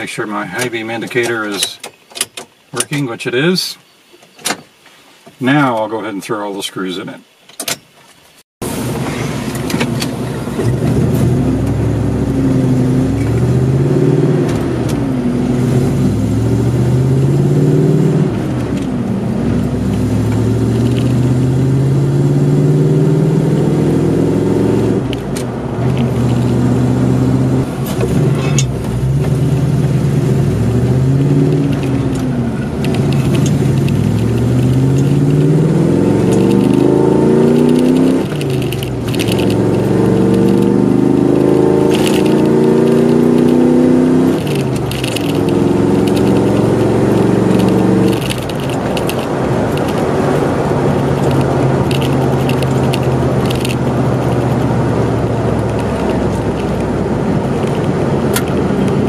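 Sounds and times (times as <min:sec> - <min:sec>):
road noise inside car: 0:07.3 - 0:59.0
car engine accelerating: 0:08.6 - 0:59.0.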